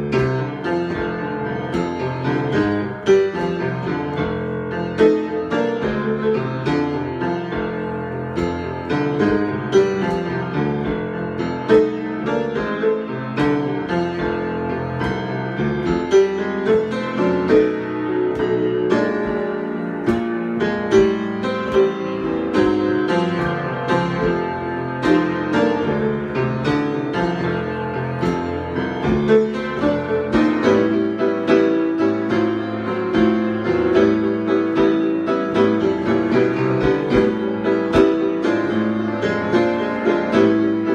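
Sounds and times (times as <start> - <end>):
solo piano improvisation: 0.0 - 40.9.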